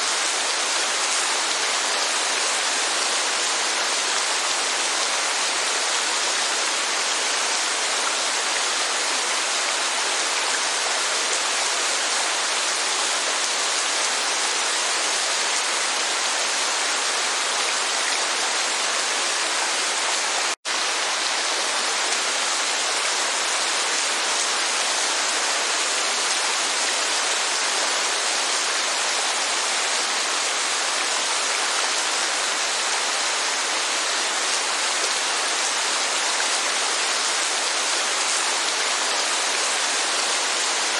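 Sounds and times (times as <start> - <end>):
heavy rainfall: 0.0 - 40.9.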